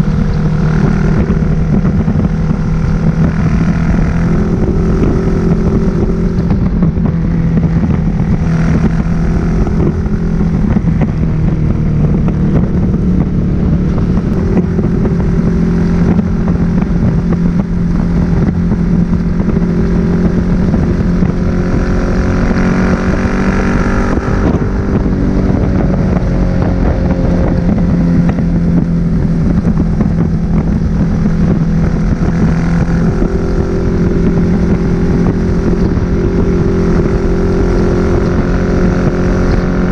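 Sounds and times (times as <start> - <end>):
higher engine note: 0.0 - 39.9
motorcycle engine cruising: 0.0 - 39.9
wind noise on microphone: 0.0 - 39.9.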